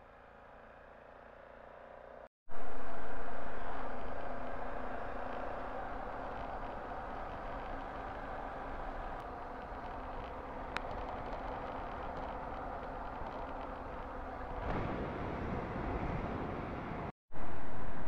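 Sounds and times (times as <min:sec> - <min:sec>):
vehicle engine running: 0:00.0 - 0:16.1.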